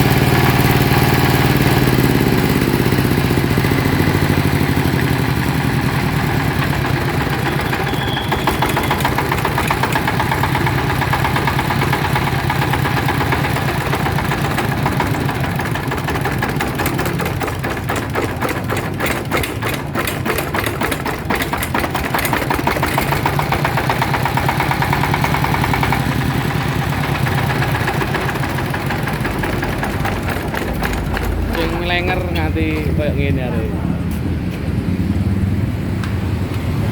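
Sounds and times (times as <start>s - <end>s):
diesel engine knocking: 0.0s - 36.7s.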